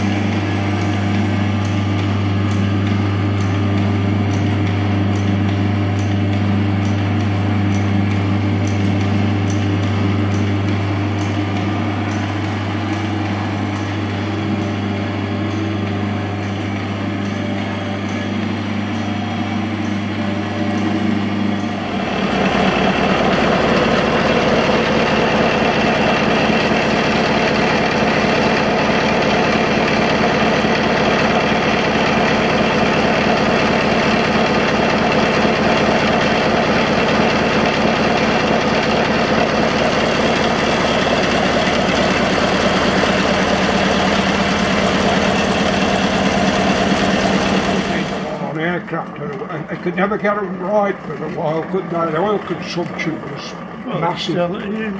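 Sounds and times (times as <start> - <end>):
stationary engine running: 0.0 - 54.9
steady low hum: 0.0 - 54.9.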